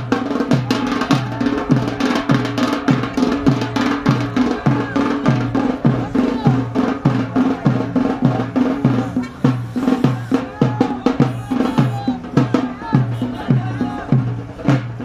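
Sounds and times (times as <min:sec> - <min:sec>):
deep drum strokes: 0:00.0 - 0:15.0.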